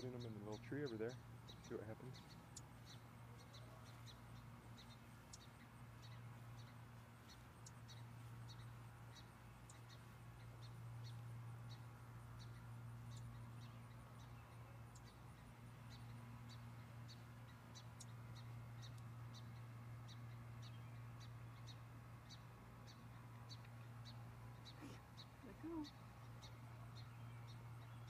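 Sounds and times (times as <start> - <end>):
songbird chirping: 0.0 - 28.0
steady low hum: 0.0 - 28.0.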